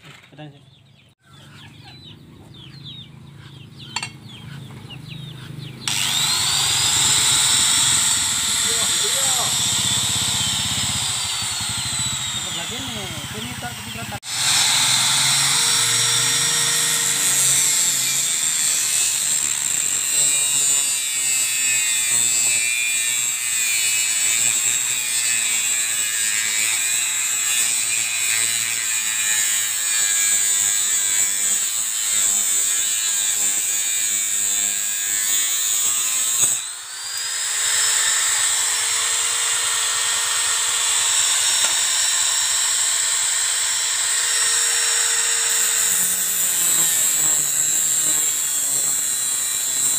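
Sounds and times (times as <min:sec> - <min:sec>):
angle grinder grinding metal: 0:03.8 - 0:49.9.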